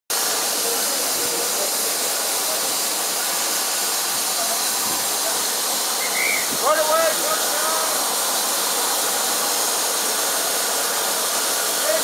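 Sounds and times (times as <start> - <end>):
train rushing hiss: 0.1 - 12.0.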